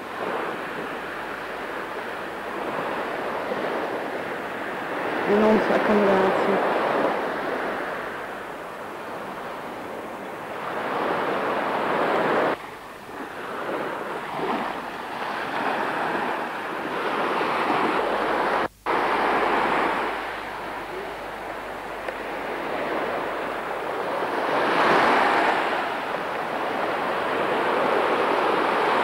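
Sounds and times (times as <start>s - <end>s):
surf washing onto beach: 0.0s - 29.0s
wind on microphone: 0.0s - 29.0s.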